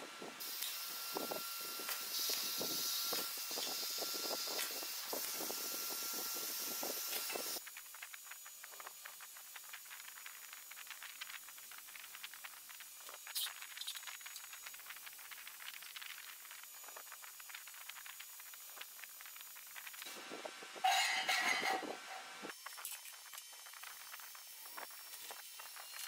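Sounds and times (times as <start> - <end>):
welding arc hissing and crackling: 0.0 - 26.0.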